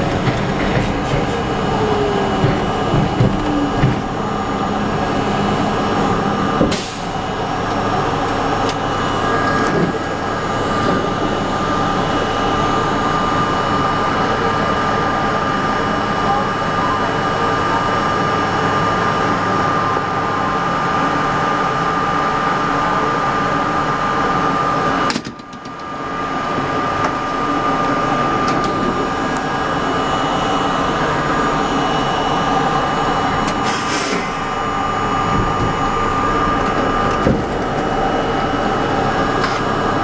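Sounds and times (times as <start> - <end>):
subway car hum and whine: 0.0 - 40.0.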